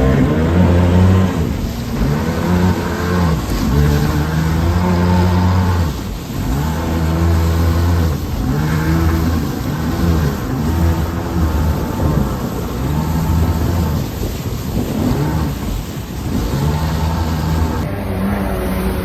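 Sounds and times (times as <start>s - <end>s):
jet ski engine revving: 0.0s - 19.0s
water and wind rushing: 0.0s - 19.0s.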